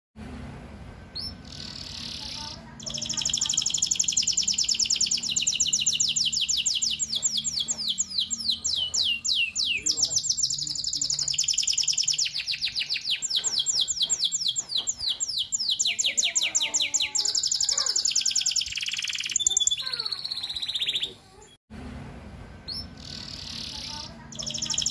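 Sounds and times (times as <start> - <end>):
canary singing trills: 1.1 - 21.6, 22.6 - 24.9.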